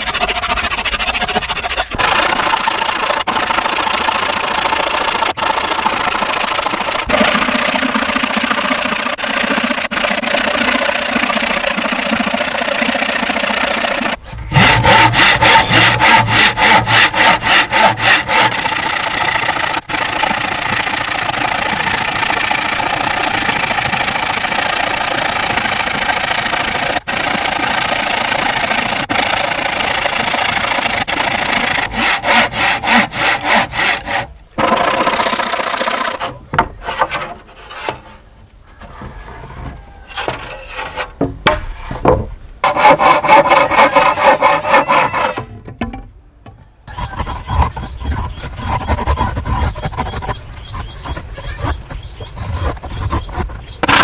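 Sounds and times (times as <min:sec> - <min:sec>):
hand saw cutting wood: 0:00.0 - 0:45.6, 0:46.9 - 0:54.0.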